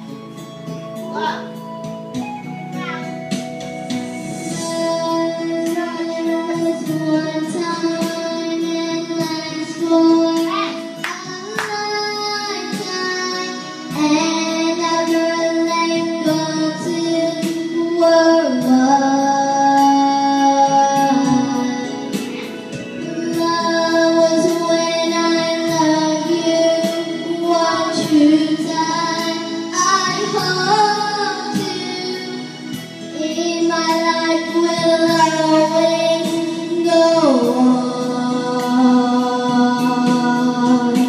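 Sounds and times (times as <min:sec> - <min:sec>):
instrumental backing music: 0:00.0 - 0:41.0
girl singing into a microphone: 0:04.2 - 0:41.0.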